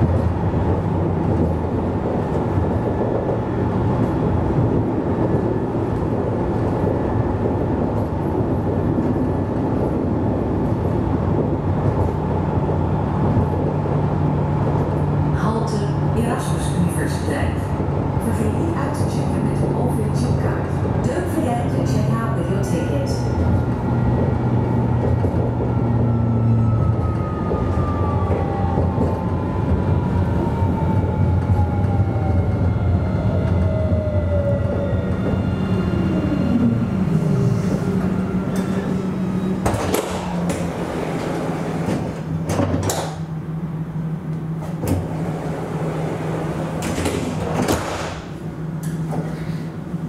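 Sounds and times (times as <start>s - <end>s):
tram drive whining down: 0.0s - 50.0s
tram humming: 0.0s - 50.0s.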